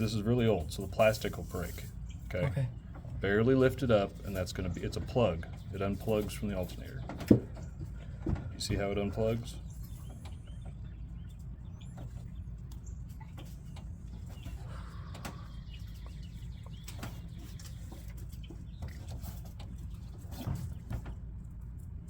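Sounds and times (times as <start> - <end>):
birds calling: 0.0 - 21.4.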